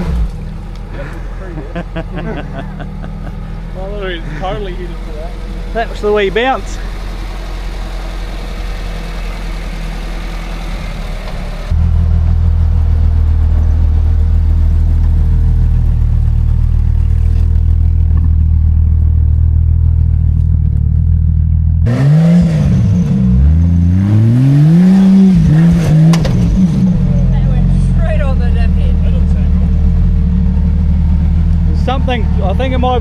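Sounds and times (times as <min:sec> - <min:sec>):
car engine running and revving: 0:00.0 - 0:33.0.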